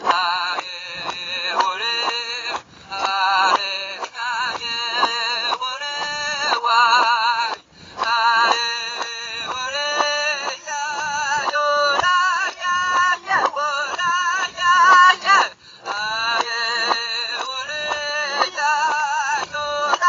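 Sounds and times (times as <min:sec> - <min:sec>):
high-pitched singing with vibrato: 0:00.0 - 0:20.0.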